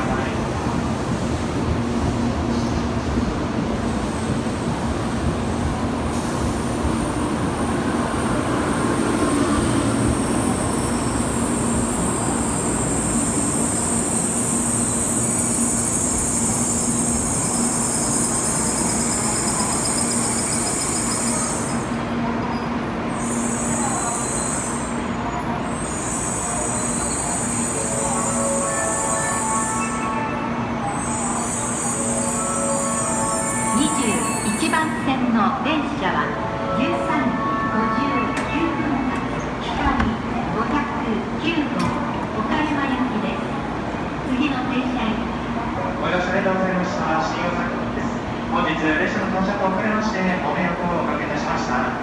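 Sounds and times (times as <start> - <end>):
train running noise: 0.0 - 48.5
high train whine: 0.0 - 52.0.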